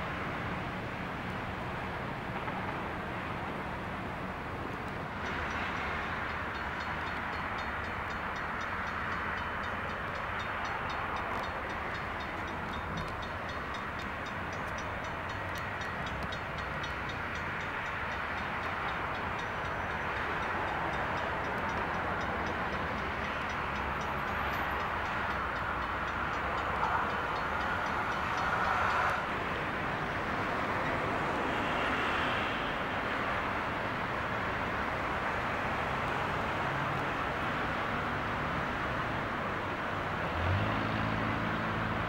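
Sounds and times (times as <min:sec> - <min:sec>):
light rail train passing: 0:00.0 - 0:42.0.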